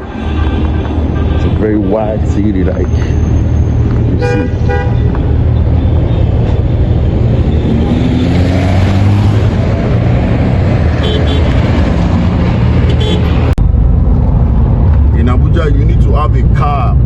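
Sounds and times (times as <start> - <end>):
road noise: 0.0 - 17.0
car engine rumble: 0.6 - 17.0.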